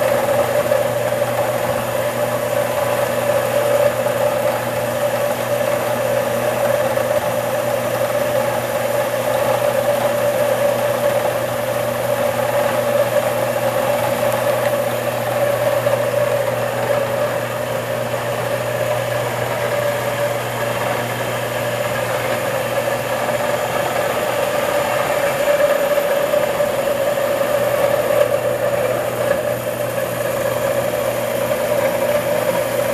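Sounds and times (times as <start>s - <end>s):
machine humming: 0.0s - 32.9s.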